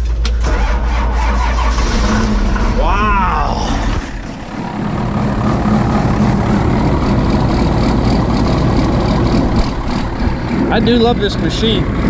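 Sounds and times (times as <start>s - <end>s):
diesel engine starting and running: 0.0s - 12.0s.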